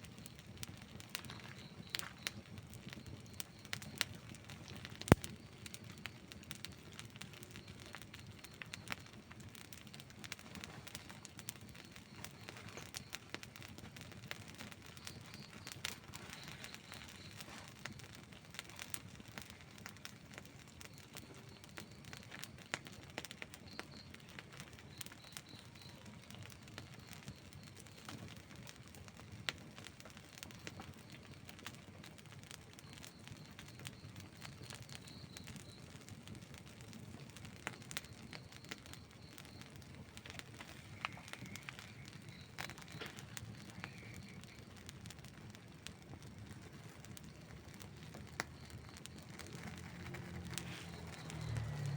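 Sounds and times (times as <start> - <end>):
campfire crackling and popping: 0.0 - 51.9
wood snapping in fire: 0.2 - 51.9.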